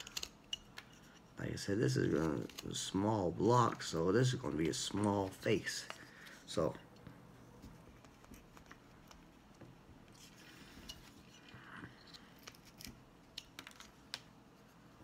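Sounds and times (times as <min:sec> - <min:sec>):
knife carving wood: 0:00.0 - 0:06.0, 0:07.6 - 0:14.3.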